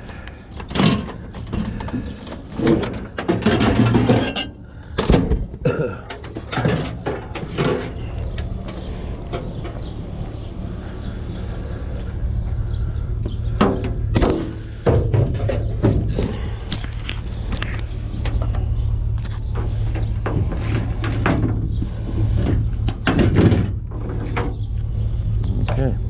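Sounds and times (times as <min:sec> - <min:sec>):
junk clattering and rustling: 0:00.0 - 0:11.4, 0:13.2 - 0:25.8
low hum: 0:00.0 - 0:26.0.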